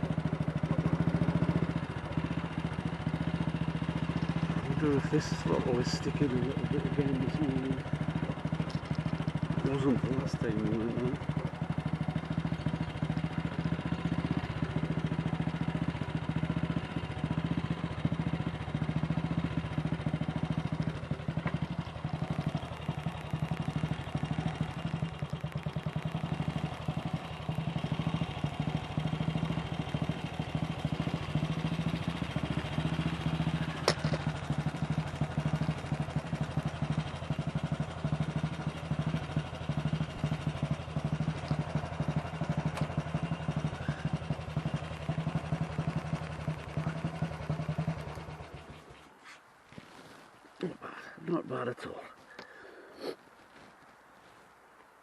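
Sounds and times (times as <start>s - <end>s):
motorcycle engine running: 0.0s - 50.7s.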